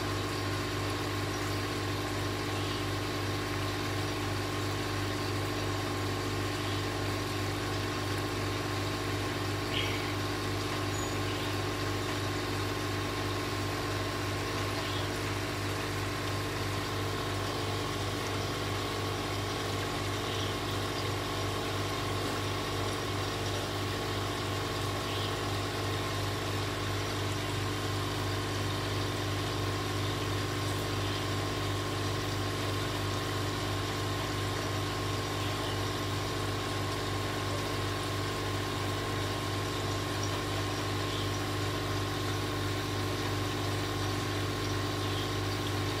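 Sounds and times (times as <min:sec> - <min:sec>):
aquarium pump humming: 0:00.0 - 0:46.0.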